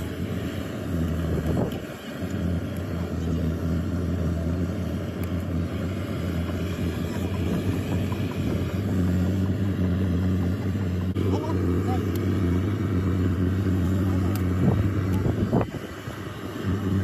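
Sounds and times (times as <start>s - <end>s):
low motor drone: 0.0s - 17.0s
outdoor background noise: 0.0s - 17.0s.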